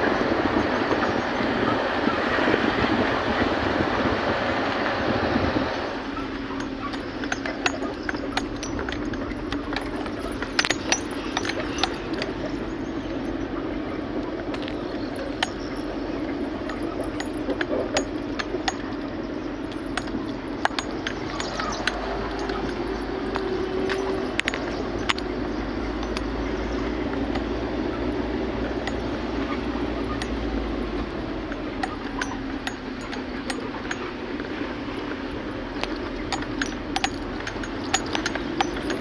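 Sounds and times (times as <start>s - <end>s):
light clinks and rattles: 0.0s - 39.0s
vehicle engine and road noise: 0.0s - 39.0s.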